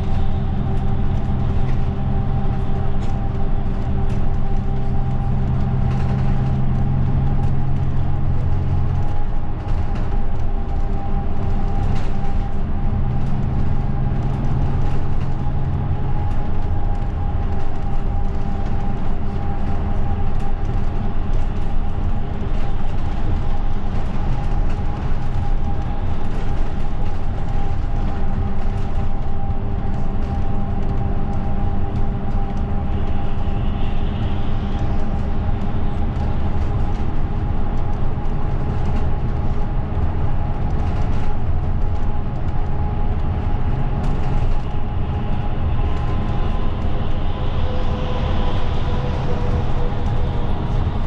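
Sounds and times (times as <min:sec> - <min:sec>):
bus engine and road rumble: 0:00.0 - 0:51.0
constant mechanical hum: 0:00.0 - 0:51.0.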